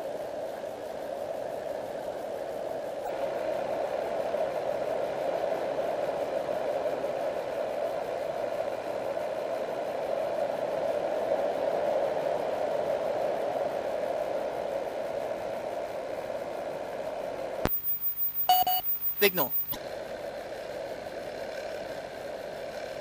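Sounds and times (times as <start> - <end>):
radio feed rushing hiss: 0.0 - 12.2, 12.9 - 23.0.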